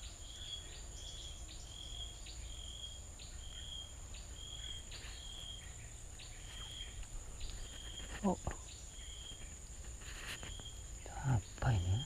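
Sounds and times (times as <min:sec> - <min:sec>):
insect chirping call: 0:00.0 - 0:12.0
insects buzzing: 0:00.0 - 0:12.0.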